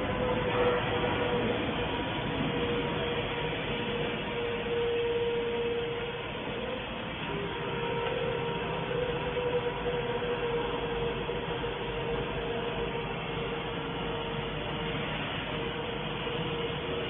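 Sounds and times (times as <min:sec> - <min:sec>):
laser cutting machine hissing: 0:00.0 - 0:17.0
steady humming tone: 0:00.0 - 0:17.0.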